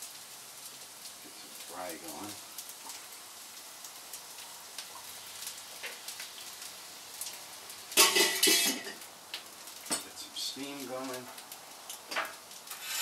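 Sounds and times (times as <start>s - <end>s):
rice sizzling in hot oil: 0.0s - 13.0s.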